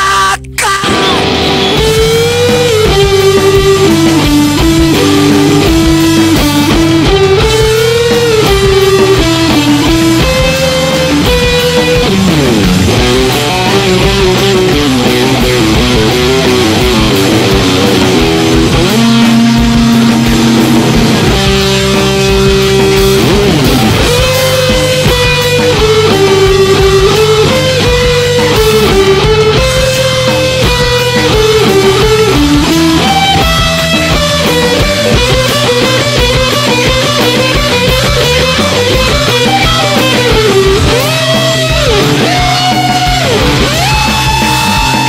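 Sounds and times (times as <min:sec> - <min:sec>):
bass and drums: 0:00.0 - 0:45.0
electric guitar notes: 0:00.0 - 0:45.0.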